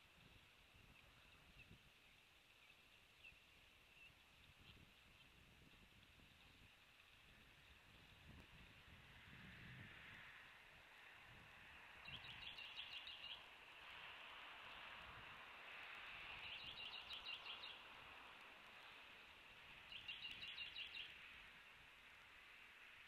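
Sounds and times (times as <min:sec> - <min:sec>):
soft background hiss: 0:00.0 - 0:23.0.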